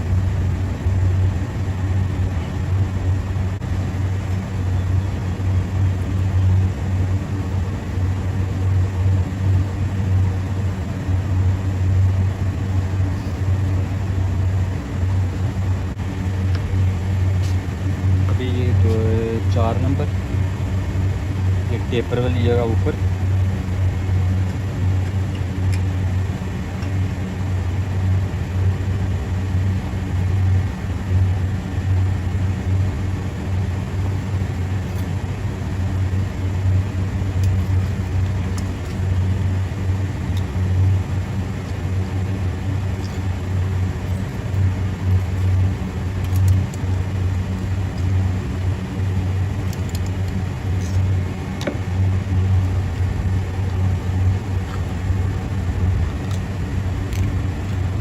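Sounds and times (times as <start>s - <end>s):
low machinery hum: 0.0s - 58.0s.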